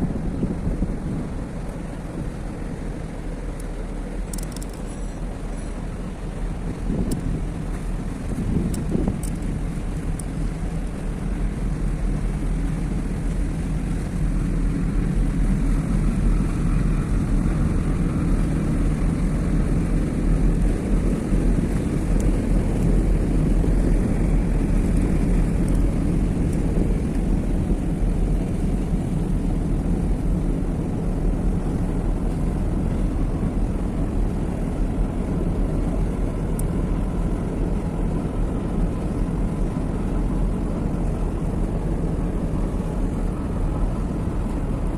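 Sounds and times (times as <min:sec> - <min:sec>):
ship engine rumble: 0:00.0 - 0:44.9.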